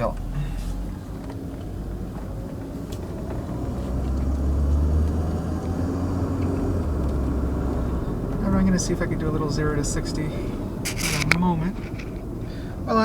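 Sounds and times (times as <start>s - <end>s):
car engine hum from inside cabin: 0.0s - 13.0s.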